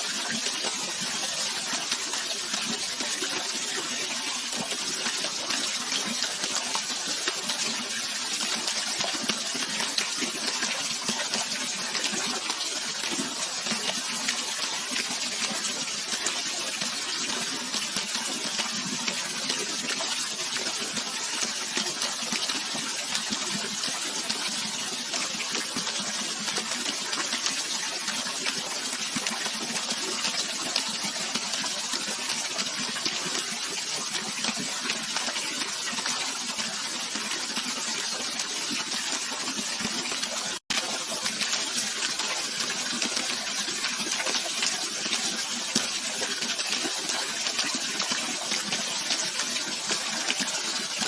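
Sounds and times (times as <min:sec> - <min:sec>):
water rushing and splashing: 0:00.0 - 0:51.0.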